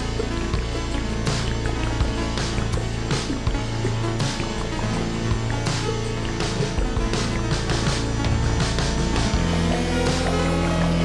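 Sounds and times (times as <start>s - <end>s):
background music with bass and drums: 0.0s - 11.0s.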